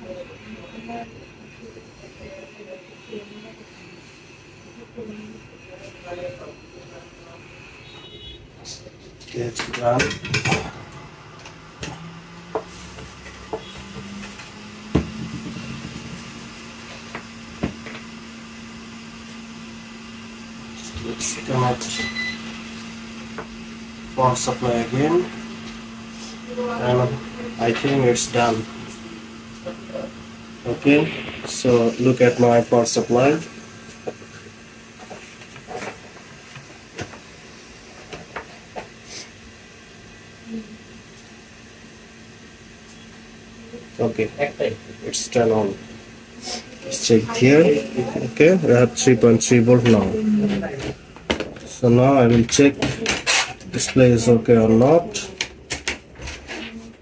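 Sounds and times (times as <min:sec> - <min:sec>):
blower humming: 0:00.0 - 0:57.0.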